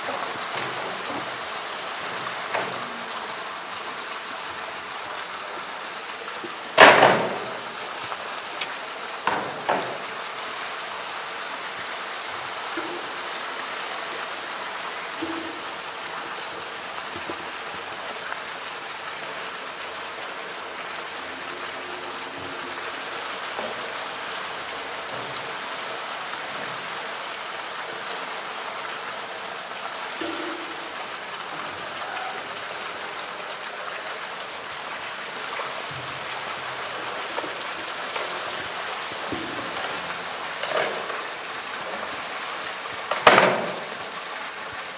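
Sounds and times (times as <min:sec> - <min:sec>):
running water rushing: 0:00.0 - 0:44.9.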